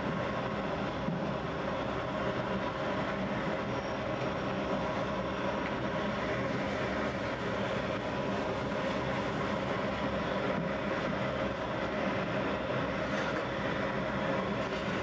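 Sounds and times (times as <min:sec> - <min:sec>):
bread oven mechanical roar: 0:00.0 - 0:15.0.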